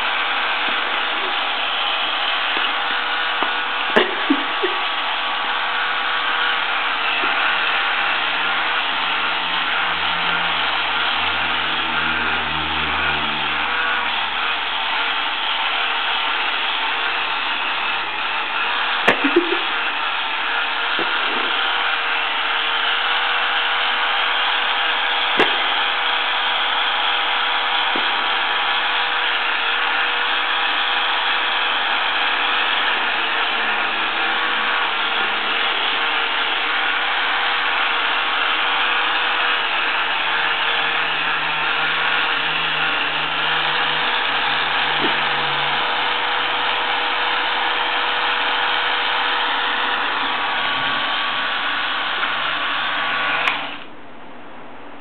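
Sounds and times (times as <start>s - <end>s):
epilator motor whirring: 0.0s - 53.9s.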